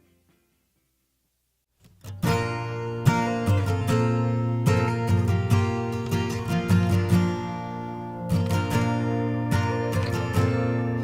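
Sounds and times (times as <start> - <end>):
country acoustic guitar music: 1.8 - 11.0.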